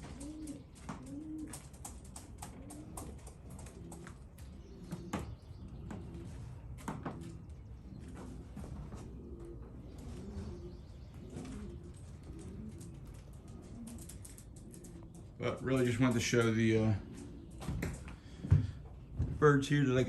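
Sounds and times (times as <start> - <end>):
pigeons cooing: 0.0 - 19.2.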